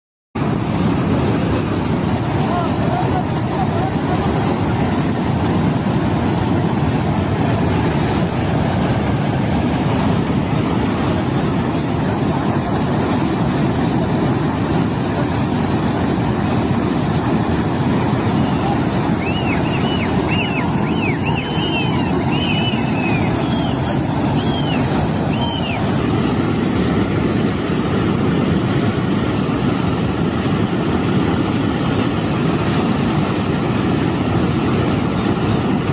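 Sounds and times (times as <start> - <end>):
flood water rushing: 0.4 - 35.9.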